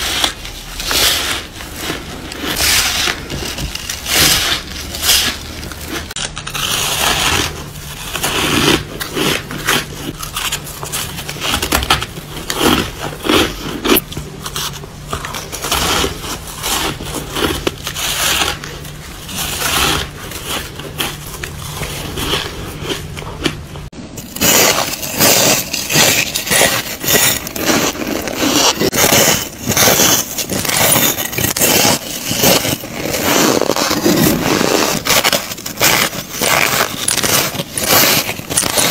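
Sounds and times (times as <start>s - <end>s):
ice being crunched: 0.0s - 38.9s.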